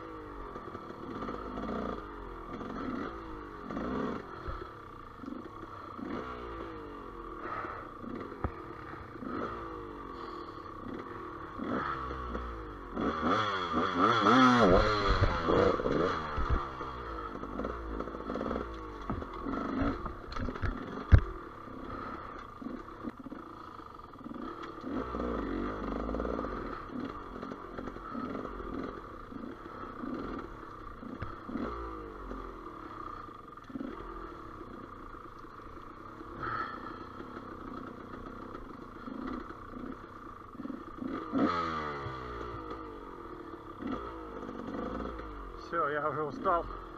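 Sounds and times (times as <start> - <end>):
motorcycle engine revving: 0.0 - 46.9
motorcycle clatter: 0.4 - 46.7.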